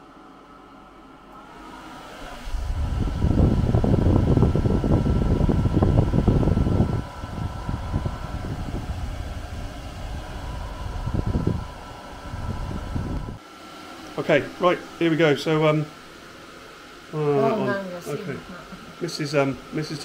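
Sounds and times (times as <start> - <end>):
faint motor hum: 0.0 - 20.0
fan air buffeting microphone: 1.0 - 20.0.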